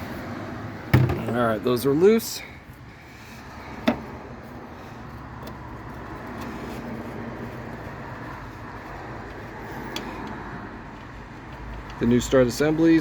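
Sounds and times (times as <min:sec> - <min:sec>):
rumble of road traffic: 0:00.0 - 0:13.0.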